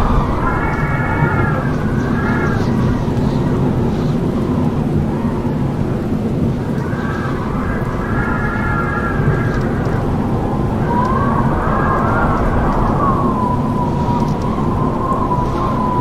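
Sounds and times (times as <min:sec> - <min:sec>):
howling wind: 0:00.0 - 0:16.0.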